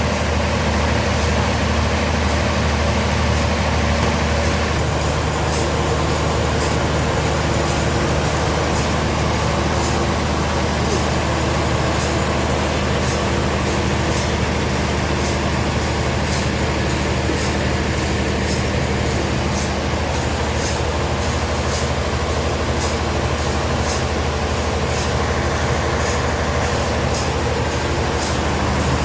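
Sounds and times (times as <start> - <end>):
machinery high hiss: 0.0 - 29.0
machinery low hum: 0.0 - 29.0.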